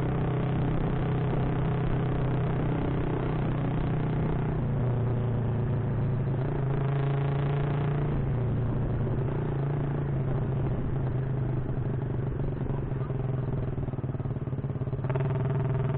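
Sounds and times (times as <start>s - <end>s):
motorcycle engine running: 0.0s - 15.9s
road and wind noise: 0.0s - 15.9s.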